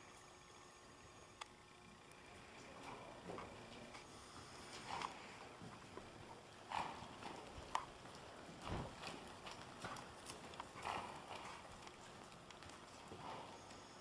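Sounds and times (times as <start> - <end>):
hoofbeats on soft dirt: 2.6 - 14.0.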